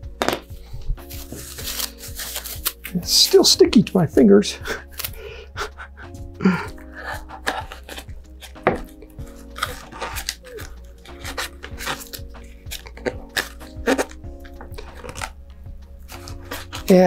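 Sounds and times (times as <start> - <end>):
soft background music: 0.0 - 17.0
plastic film crinkling: 0.2 - 4.0, 4.7 - 5.8, 6.5 - 17.0.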